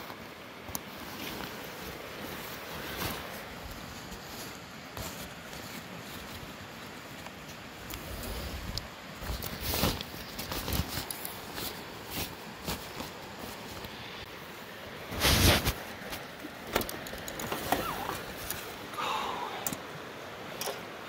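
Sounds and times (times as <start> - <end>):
fabric rustling and crinkling: 0.0 - 14.2, 15.0 - 18.8.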